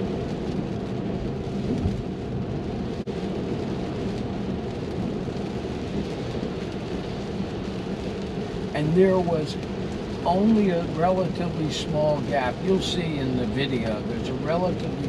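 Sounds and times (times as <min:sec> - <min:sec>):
rain on car glass: 0:00.0 - 0:15.0
tyres hissing on wet road: 0:00.0 - 0:15.0.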